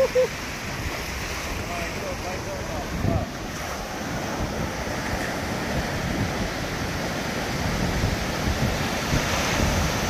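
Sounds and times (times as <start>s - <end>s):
sea waves: 0.0s - 10.0s
wind buffeting microphone: 0.0s - 10.0s.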